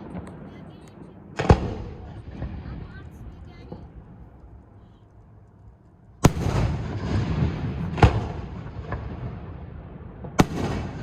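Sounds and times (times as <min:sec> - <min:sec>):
fireworks booming: 0:00.0 - 0:04.8, 0:06.2 - 0:11.0.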